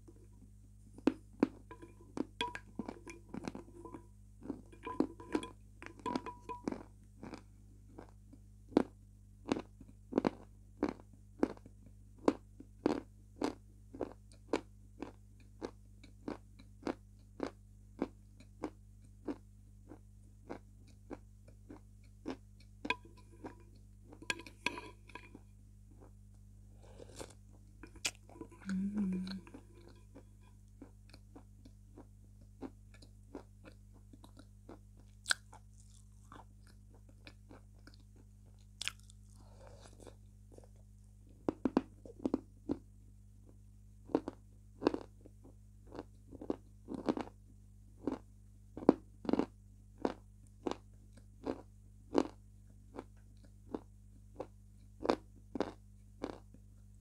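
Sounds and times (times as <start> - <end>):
person chewing soft food: 0.0 - 56.9.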